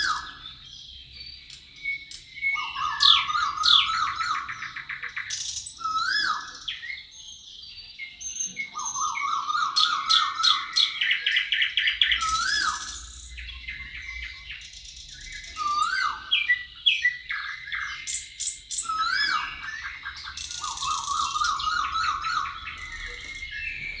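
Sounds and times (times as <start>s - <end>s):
birds singing: 0.0s - 24.0s.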